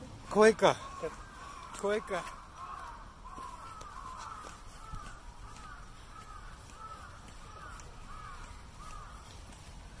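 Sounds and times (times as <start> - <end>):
crows cawing: 0.1 - 10.0.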